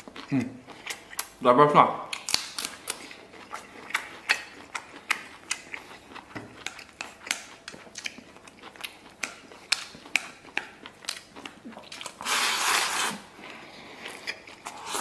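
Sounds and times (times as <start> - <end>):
person chewing with wet smacking: 0.0 - 1.4, 2.0 - 15.0.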